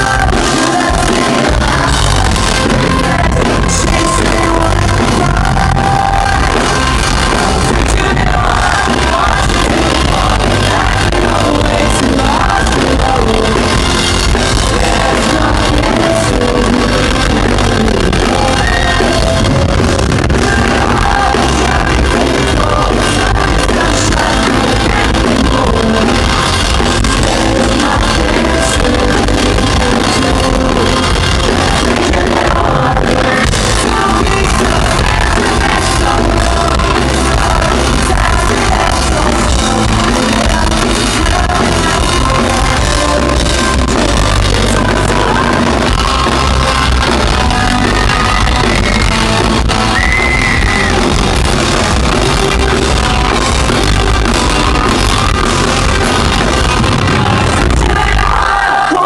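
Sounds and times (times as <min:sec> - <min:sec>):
bass guitar: 0:00.0 - 0:59.0
electric guitar: 0:00.0 - 0:59.0
person singing lead vocal: 0:00.0 - 0:59.0.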